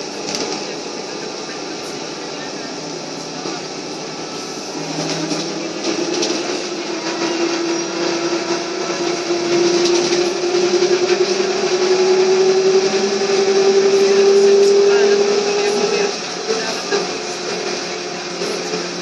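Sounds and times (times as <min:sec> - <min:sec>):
road noise: 0:00.0 - 0:19.0
traction motor whine: 0:00.0 - 0:19.0.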